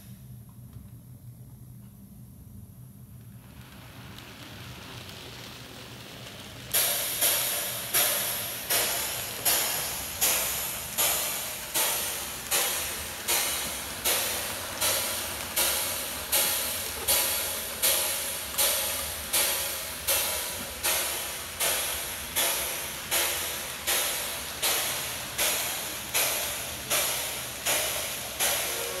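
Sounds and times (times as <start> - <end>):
steam locomotive chuffing: 3.3 - 29.0.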